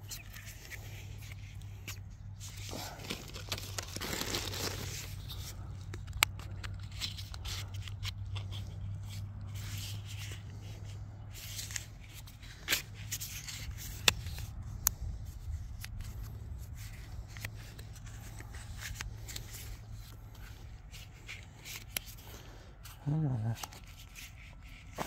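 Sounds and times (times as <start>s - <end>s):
hands rustling plastic tubing: 0.0s - 25.0s
steady low hum: 0.0s - 25.0s.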